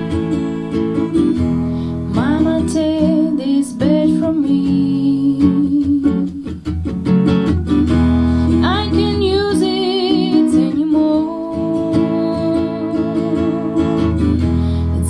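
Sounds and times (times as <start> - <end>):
person singing with vibrato: 0.0 - 6.6, 8.5 - 15.0
acoustic guitar strumming: 0.0 - 15.0.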